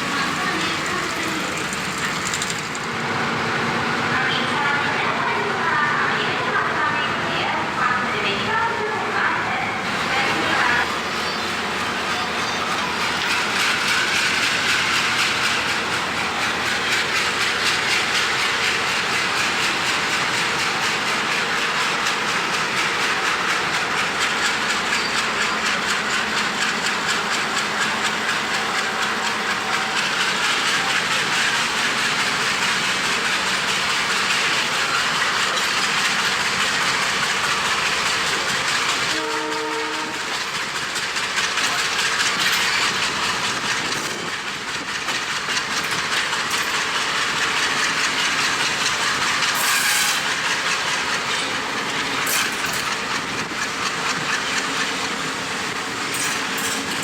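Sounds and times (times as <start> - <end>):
train wheels clattering on rails: 0.0 - 7.1, 9.9 - 57.0.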